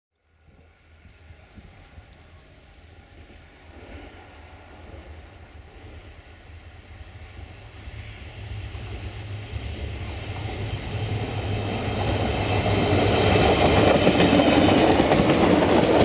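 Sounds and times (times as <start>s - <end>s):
train engine and rail rumble: 0.2s - 16.0s.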